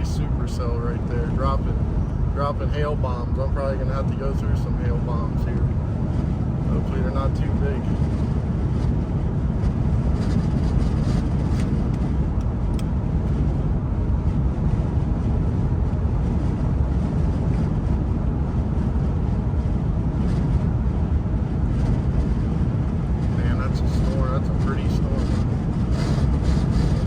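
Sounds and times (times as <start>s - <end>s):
car road and engine noise: 0.0s - 27.0s.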